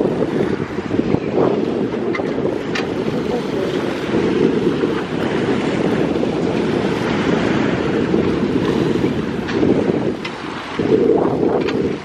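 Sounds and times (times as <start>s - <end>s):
small waves washing against seawall: 0.0s - 12.0s
wind buffeting microphone: 0.0s - 12.0s.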